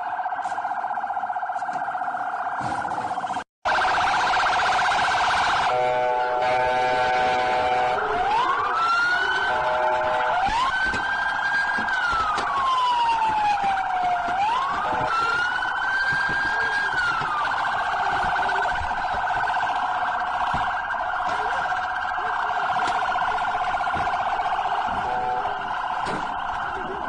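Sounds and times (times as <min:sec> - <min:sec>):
police siren: 0:00.0 - 0:27.0.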